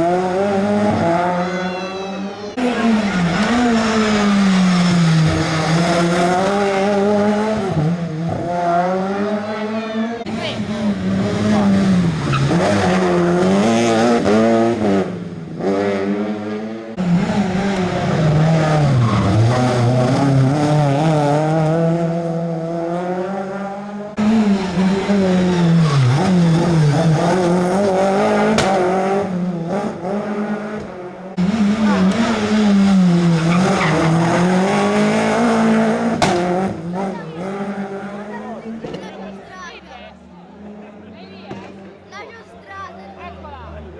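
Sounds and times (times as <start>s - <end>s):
rally car engines: 0.0s - 43.9s.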